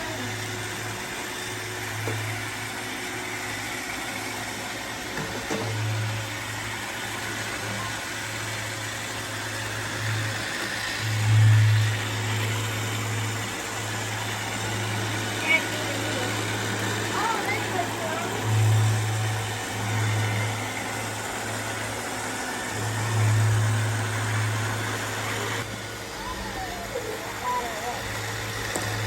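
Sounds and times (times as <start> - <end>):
robot vacuum motor humming: 0.0 - 29.0.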